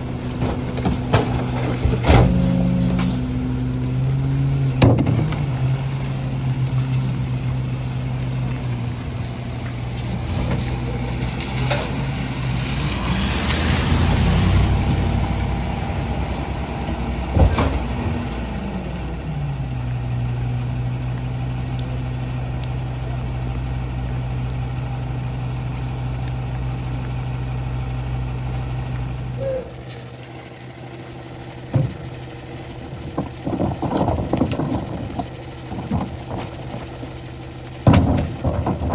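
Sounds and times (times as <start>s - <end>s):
truck diesel engine revving: 0.0s - 33.4s.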